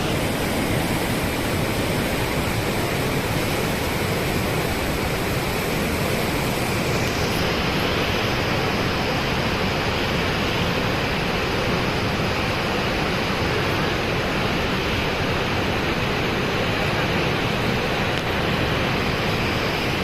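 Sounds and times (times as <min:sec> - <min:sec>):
floodwater rushing through dam gates: 0:00.0 - 0:20.0.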